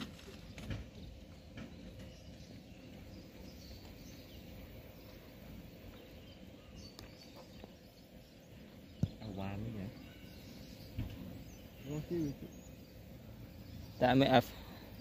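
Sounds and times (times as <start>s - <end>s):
faint outdoor background noise: 0.0s - 15.0s
light bird chirps: 0.0s - 15.0s.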